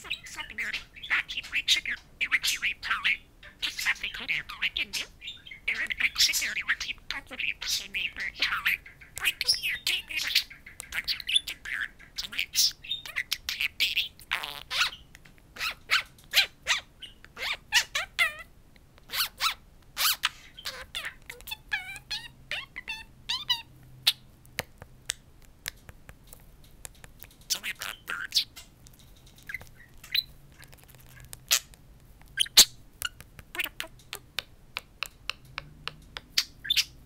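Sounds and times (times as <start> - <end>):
budgerigar chattering: 0.0 - 18.5, 19.1 - 24.2, 27.5 - 28.7, 29.5 - 31.8, 32.4 - 34.4, 36.4 - 37.0.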